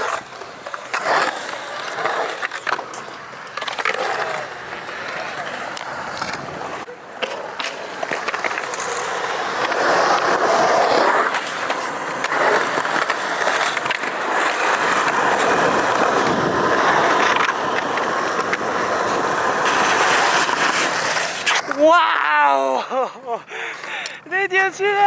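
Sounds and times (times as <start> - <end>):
skateboard wheels rolling on concrete: 0.0 - 25.0.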